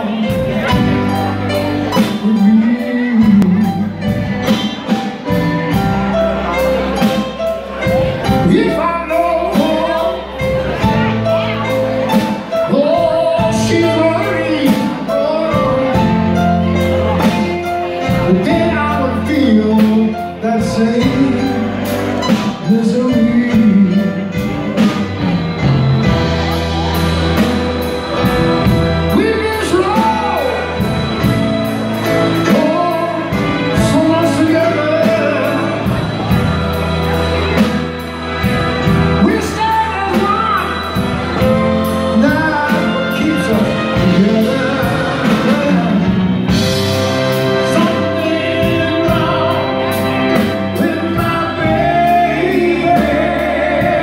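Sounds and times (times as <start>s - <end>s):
man singing: 0.0s - 25.0s, 28.1s - 36.7s, 38.4s - 54.0s
horn section: 0.0s - 54.0s
soul band playing: 0.0s - 54.0s.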